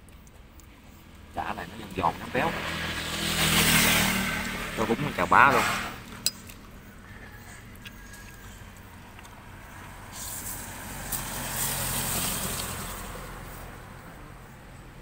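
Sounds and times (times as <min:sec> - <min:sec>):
vehicle passing: 0:01.0 - 0:15.0.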